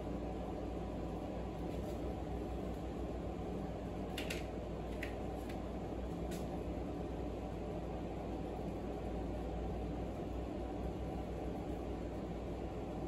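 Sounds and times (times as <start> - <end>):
air conditioner and fan hum: 0.0 - 13.0.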